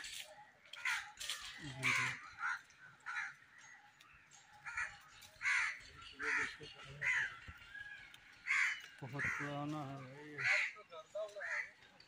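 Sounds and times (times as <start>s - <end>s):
crows cawing: 0.5s - 12.0s.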